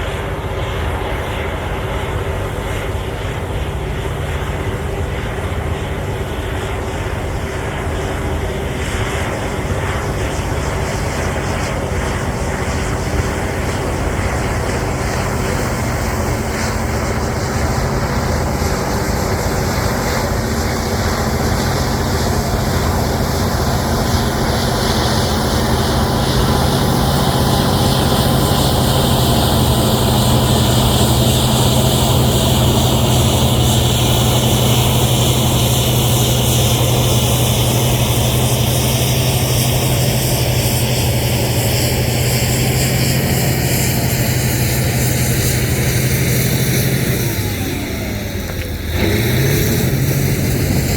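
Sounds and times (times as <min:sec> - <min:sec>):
bulldozer diesel engine drone: 0:00.0 - 0:50.9.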